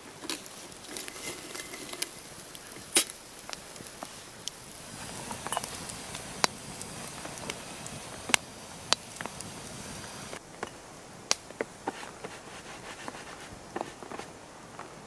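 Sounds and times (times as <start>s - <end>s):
faint steady hiss: 0.0s - 15.0s
snow and raindrops ticking on branches: 0.0s - 15.0s.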